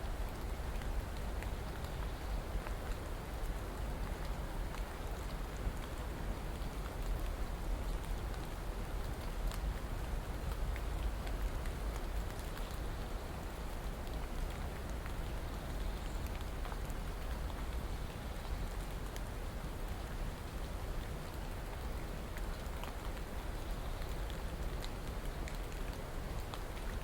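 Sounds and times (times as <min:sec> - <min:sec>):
steady rainfall: 0:00.0 - 0:27.0
raindrop ticks: 0:00.3 - 0:27.0.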